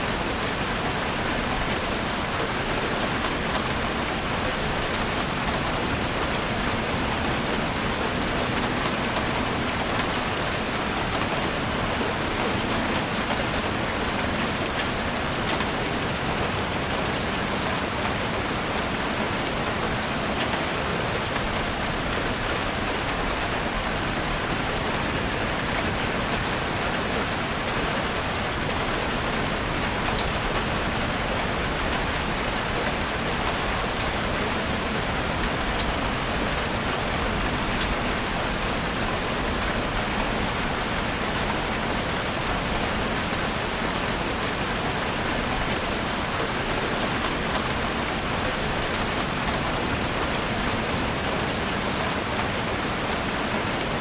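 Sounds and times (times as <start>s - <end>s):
heavy rain pattering on a roof: 0.0s - 54.0s.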